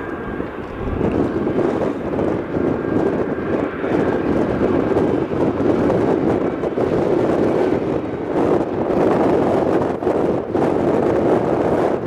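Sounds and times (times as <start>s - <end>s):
jet engines at takeoff power: 0.0s - 12.0s.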